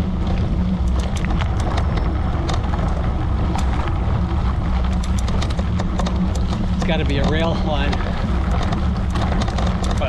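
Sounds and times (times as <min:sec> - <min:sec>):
sharp ticks and crackles: 0:00.0 - 0:10.0
tyres rumbling on gravel: 0:00.0 - 0:10.0
wind: 0:00.0 - 0:10.0.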